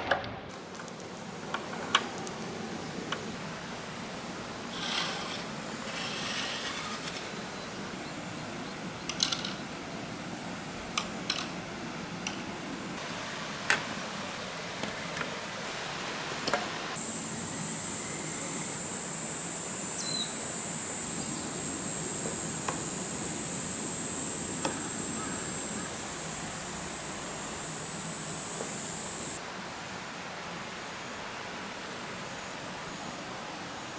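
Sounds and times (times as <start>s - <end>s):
steady high buzz: 2.1s - 33.9s.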